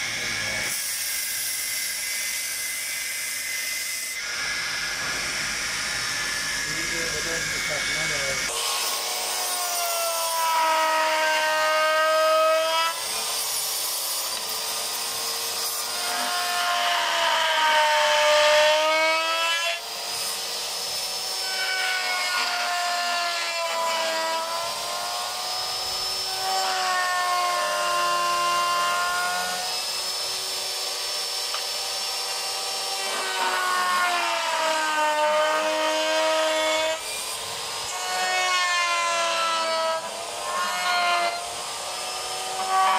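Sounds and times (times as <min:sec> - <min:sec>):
rasping of wood cutting: 0:00.0 - 0:42.9
router motor whine: 0:00.0 - 0:42.9.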